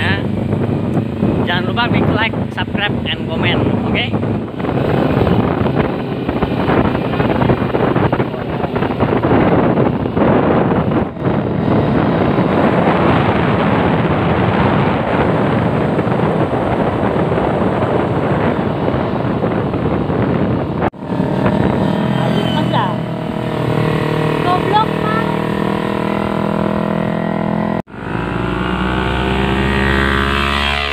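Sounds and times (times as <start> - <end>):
motorcycle engine running: 0.0 - 30.9
wind rushing over microphone: 0.0 - 30.9.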